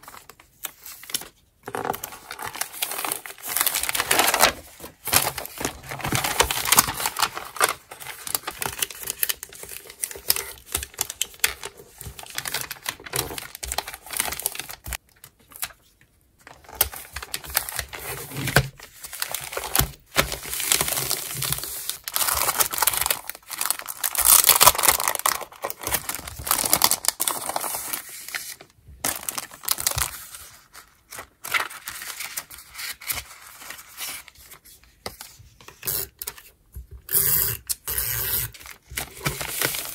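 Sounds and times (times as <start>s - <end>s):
wrapping paper crinkling: 0.0s - 15.8s, 16.4s - 34.6s, 38.6s - 39.9s.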